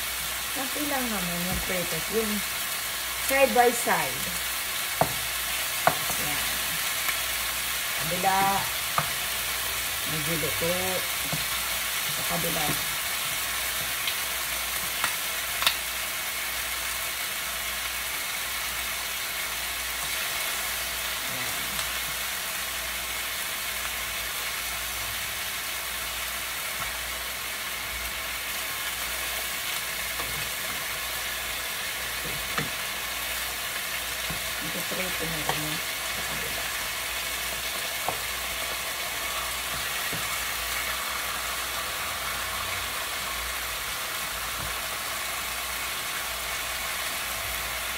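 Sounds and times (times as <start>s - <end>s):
food sizzling in hot oil: 0.0s - 47.9s.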